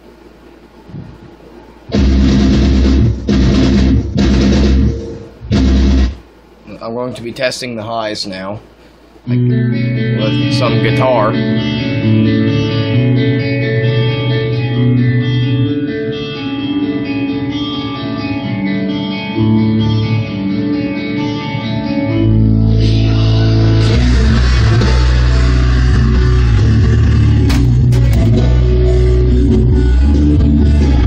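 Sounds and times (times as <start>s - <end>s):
rock song through speakers: 1.9s - 6.2s, 9.3s - 31.0s.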